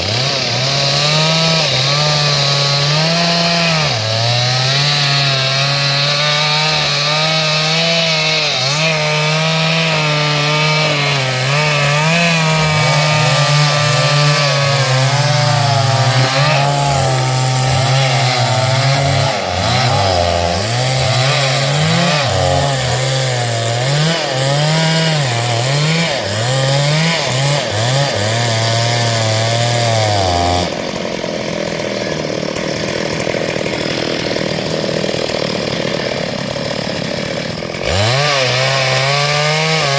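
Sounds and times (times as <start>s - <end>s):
chainsaw cutting hardwood: 0.0s - 39.9s.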